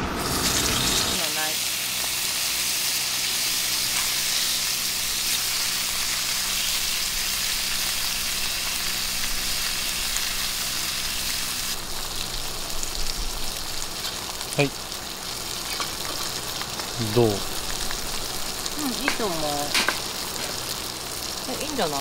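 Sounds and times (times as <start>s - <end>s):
fish sizzling in grill pan: 0.1s - 22.0s.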